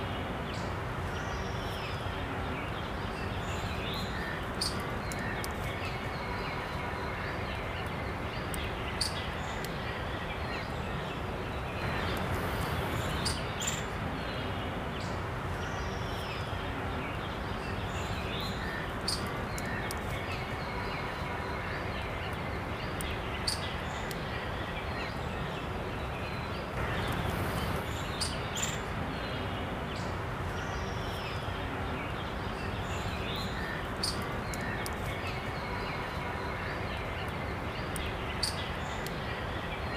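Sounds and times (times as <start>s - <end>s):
steady ambient noise: 0.0s - 39.9s.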